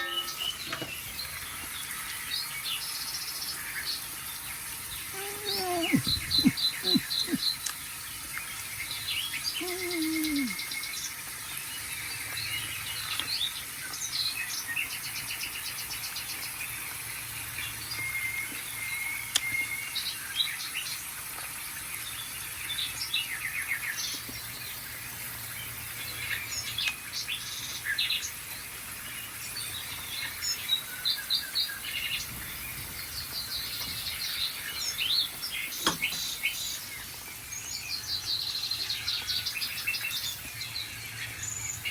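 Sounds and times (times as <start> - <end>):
birds singing and chirping: 0.0 - 41.9.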